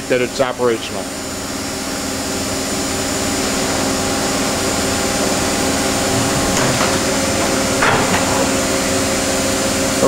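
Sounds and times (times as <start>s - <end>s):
machining center mechanical hum: 0.0s - 10.0s.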